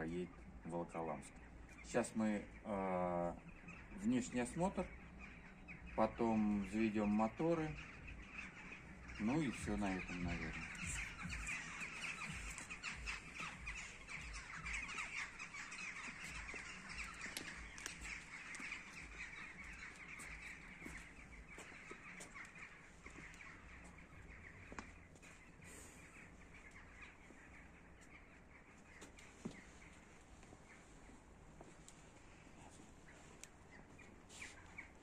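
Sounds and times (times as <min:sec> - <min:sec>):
birds calling and chattering: 0:00.0 - 0:35.0.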